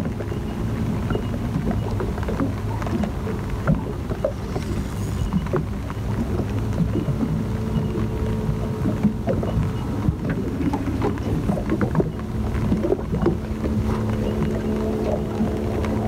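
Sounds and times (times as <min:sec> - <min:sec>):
steady low hum: 0:00.0 - 0:16.0
wind rumbling on microphone: 0:00.0 - 0:16.0.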